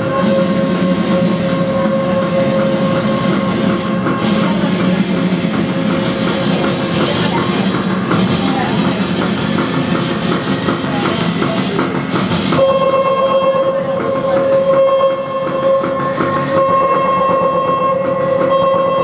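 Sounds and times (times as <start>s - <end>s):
harsh electronic noise music: 0.0s - 19.0s.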